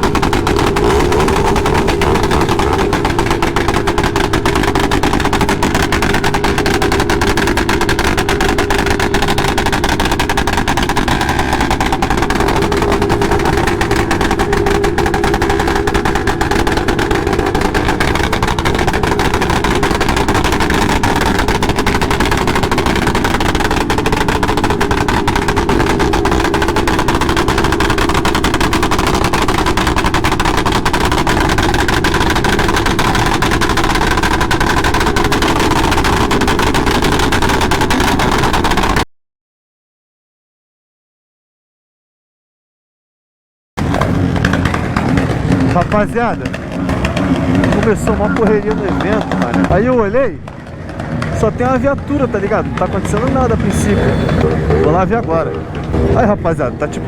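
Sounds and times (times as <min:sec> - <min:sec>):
motorcycle engine running: 0:00.0 - 0:39.0, 0:43.8 - 0:57.0.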